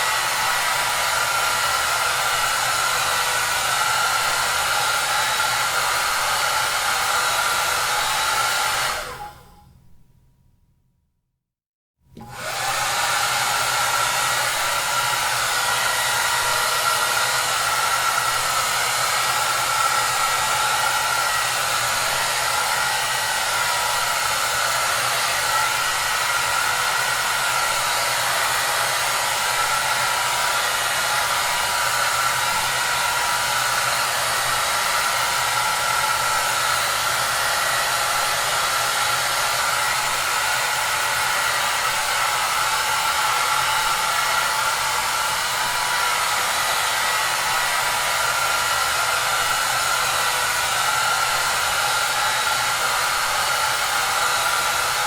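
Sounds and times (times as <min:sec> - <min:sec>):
hair dryer running: 0:00.0 - 0:09.6, 0:12.1 - 0:55.0.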